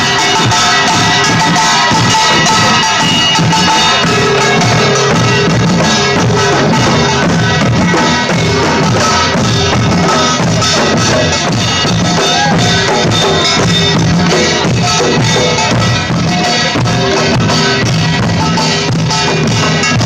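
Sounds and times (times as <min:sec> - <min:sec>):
drum kit beat: 0:00.0 - 0:20.0
live band music: 0:00.0 - 0:20.0.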